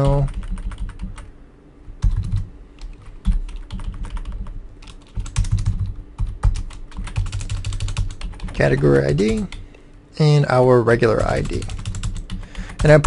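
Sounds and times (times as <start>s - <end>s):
typing on a computer keyboard: 0.0s - 1.3s, 2.0s - 9.6s, 11.1s - 13.0s.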